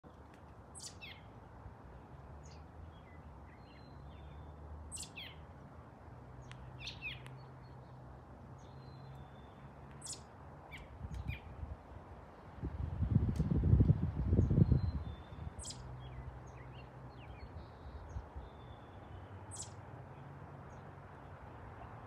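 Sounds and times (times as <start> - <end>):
small birds chirping: 0.7 - 5.5, 6.3 - 11.6, 14.3 - 22.0.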